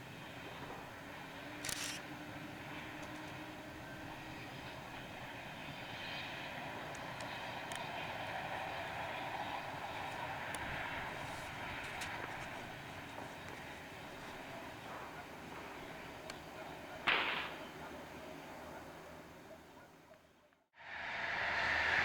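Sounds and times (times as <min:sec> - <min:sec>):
train rushing along: 0:00.0 - 0:16.7, 0:20.8 - 0:22.0.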